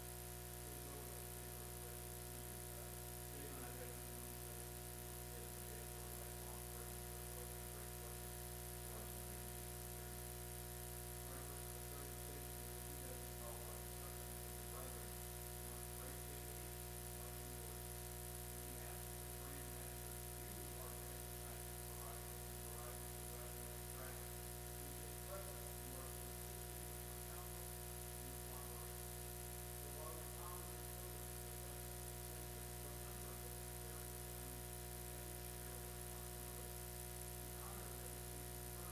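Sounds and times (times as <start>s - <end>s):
electrical hum and buzz: 0.0s - 38.9s.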